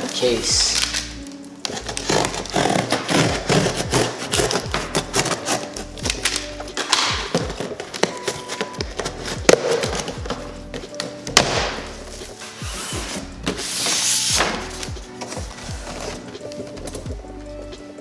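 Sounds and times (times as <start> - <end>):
background music with steady beat: 0.0 - 18.0
cardboard box knocks and rubbing: 1.8 - 17.2.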